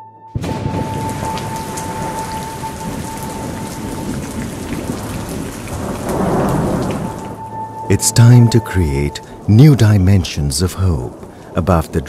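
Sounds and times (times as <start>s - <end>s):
thunder rumbling: 0.3s - 12.0s
heavy rain pouring: 0.4s - 12.0s.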